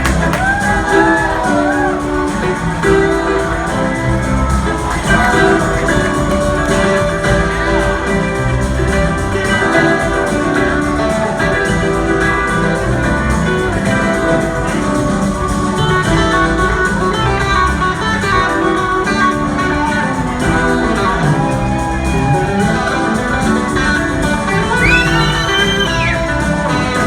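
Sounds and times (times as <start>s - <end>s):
electric guitar: 0.0s - 27.0s
live rock band playing: 0.0s - 27.0s.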